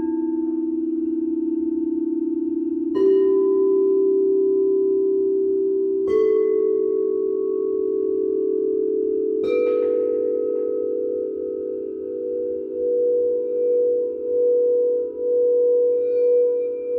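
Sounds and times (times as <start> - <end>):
singing bowls ringing: 0.0 - 16.9.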